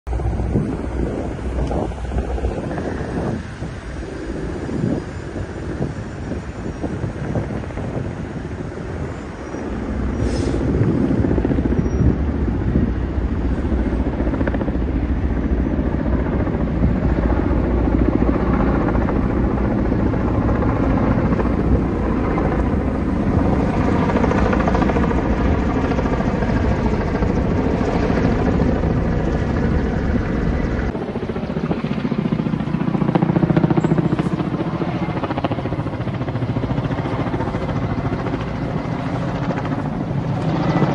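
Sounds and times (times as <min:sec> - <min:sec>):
helicopter flying overhead: 0:00.1 - 0:40.9.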